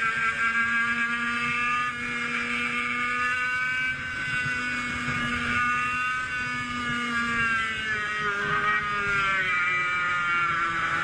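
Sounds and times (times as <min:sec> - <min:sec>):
kart engine buzzing at high revs: 0:00.0 - 0:11.0.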